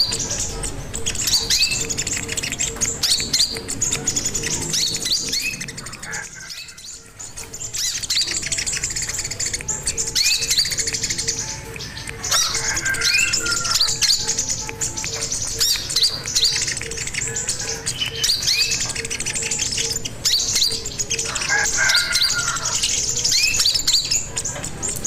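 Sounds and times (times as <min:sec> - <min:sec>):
bird chirping and trilling: 0:00.0 - 0:25.0.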